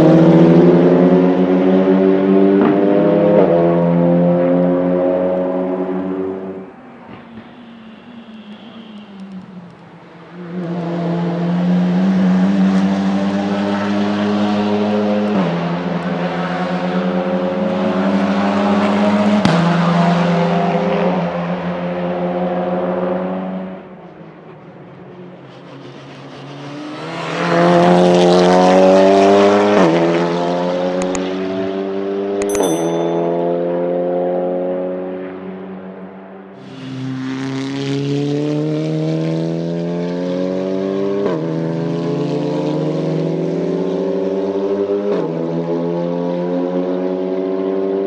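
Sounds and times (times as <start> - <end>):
race car engines accelerating: 0.0 - 32.4, 33.4 - 48.0.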